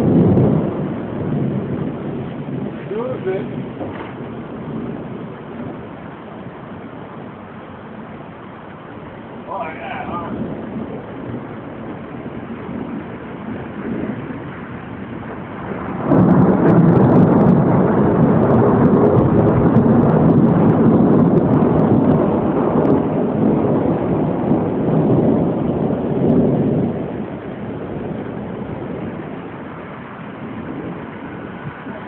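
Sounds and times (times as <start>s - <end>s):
thunder crack and rumble: 0.0s - 32.0s.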